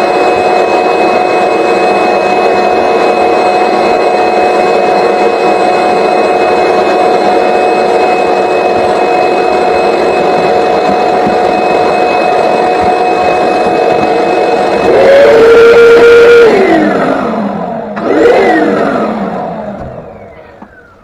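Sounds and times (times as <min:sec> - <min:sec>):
vacuum motor whining: 0:00.0 - 0:21.0.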